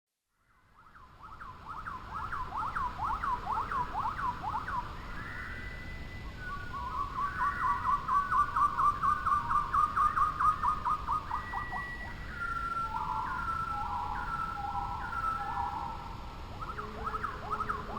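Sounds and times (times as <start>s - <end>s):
songbird singing: 0.4s - 17.9s.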